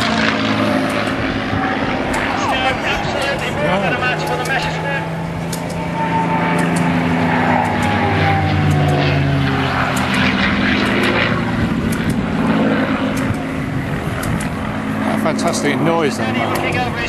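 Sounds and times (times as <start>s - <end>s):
propeller planes passing low: 0.0s - 17.0s.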